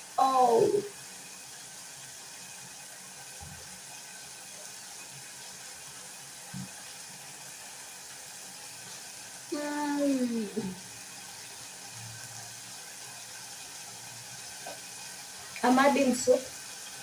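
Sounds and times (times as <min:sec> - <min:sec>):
pot of soup simmering: 0:00.0 - 0:17.0.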